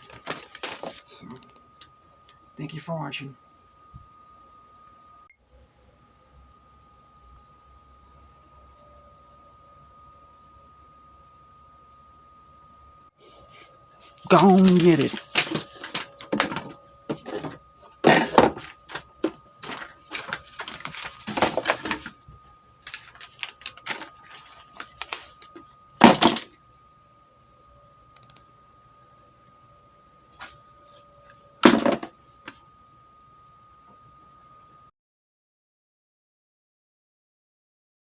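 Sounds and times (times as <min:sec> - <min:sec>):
faint steady high tone: 0:00.0 - 0:34.9.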